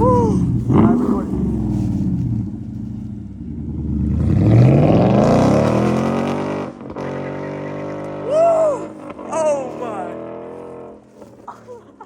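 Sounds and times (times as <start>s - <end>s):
car engine accelerating past: 0.0s - 11.4s.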